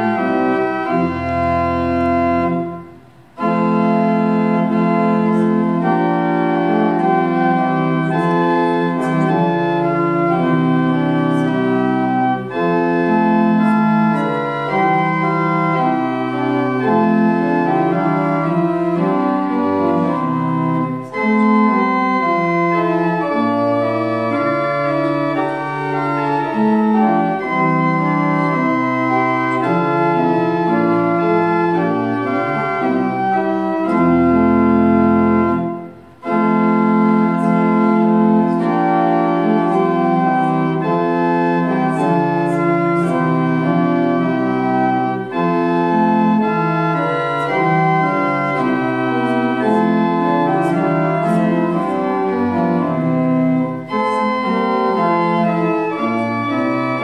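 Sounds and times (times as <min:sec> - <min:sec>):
church organ playing a hymn: 0:00.0 - 0:57.0.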